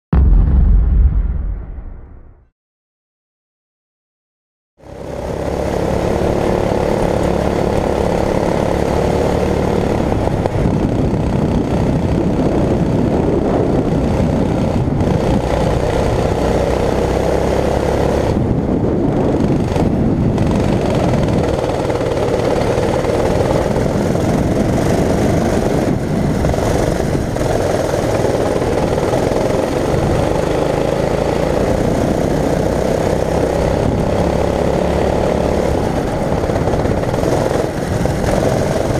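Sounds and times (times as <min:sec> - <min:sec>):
go-kart engine running: 0:04.8 - 0:38.9.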